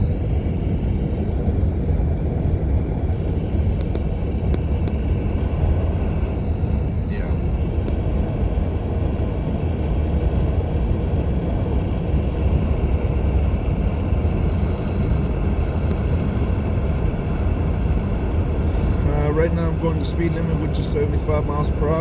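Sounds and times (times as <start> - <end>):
road rumble: 0.0 - 22.0
wind rushing in car cabin: 0.0 - 22.0.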